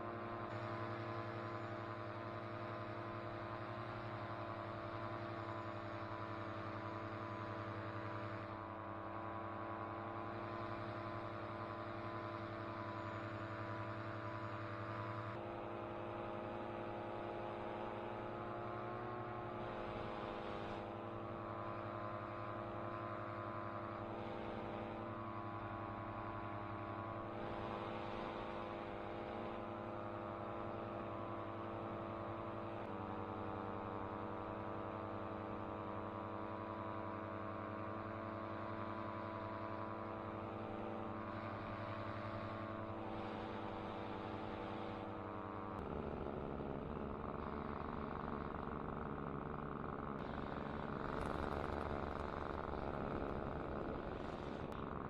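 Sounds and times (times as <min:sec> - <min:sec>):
paramotor engine running: 0:00.0 - 0:55.0.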